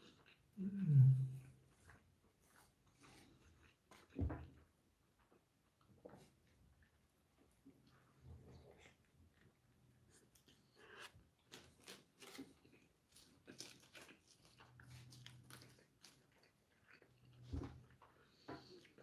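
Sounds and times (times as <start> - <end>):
man chewing food: 0.0 - 19.0.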